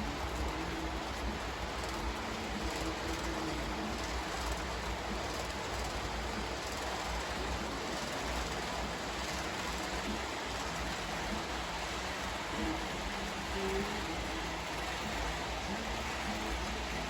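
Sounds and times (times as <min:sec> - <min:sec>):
model locomotive rumble and hiss: 0:00.0 - 0:17.0.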